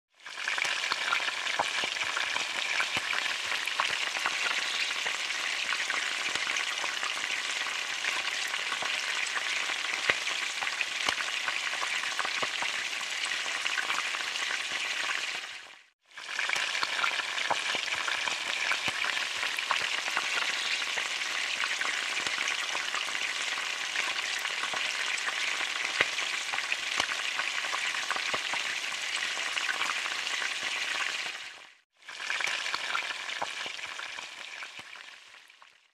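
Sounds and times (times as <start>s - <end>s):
food sizzling in hot oil: 0.2s - 35.8s.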